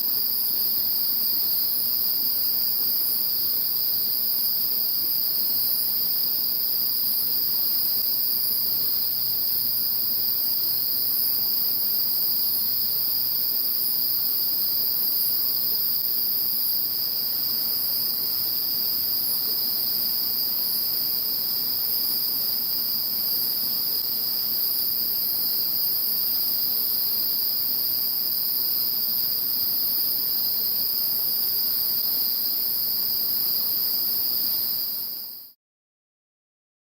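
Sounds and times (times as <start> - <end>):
crickets and insects chirping: 0.0 - 35.6.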